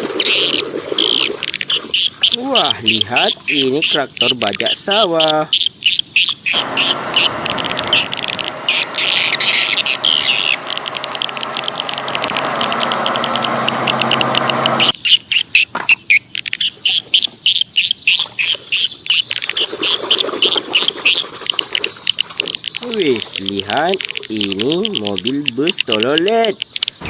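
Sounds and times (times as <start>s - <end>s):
small birds chirping: 0.2s - 27.0s.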